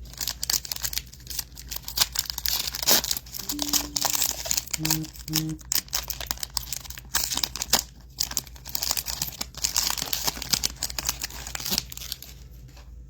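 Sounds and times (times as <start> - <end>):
foil wrapper crinkling and tearing: 0.0 - 12.8.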